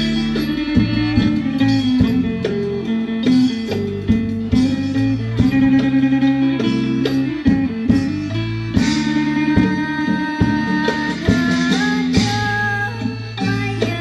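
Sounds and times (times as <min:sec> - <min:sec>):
plucked-string ensemble music: 0:00.0 - 0:14.0.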